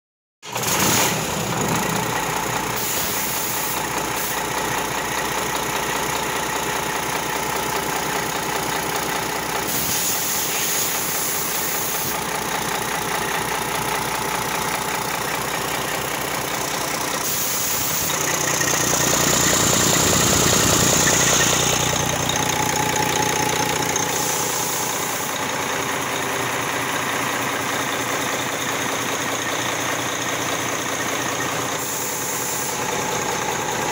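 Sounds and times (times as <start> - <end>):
diesel engine idling: 0.6 - 33.9.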